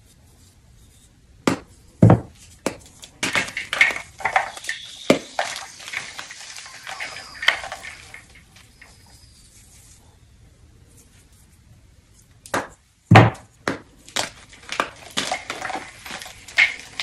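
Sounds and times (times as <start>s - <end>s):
chalk block cracking and crunching: 0.9s - 10.0s, 12.2s - 17.0s.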